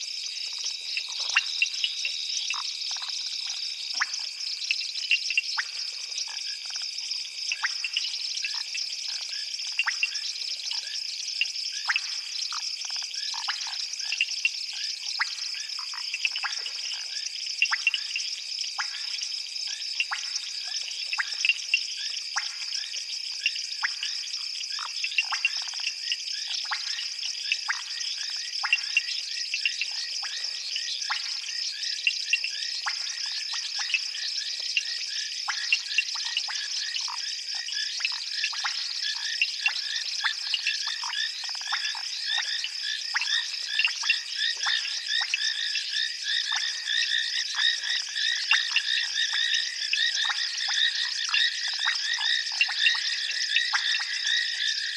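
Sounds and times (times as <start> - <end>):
frogs calling: 0.0 - 54.9.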